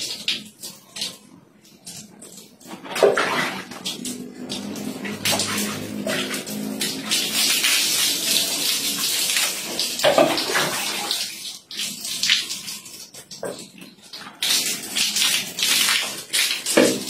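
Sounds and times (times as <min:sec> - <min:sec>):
dipper scooping water: 0:00.0 - 0:17.0
water splashing onto tiled floor: 0:00.0 - 0:17.0.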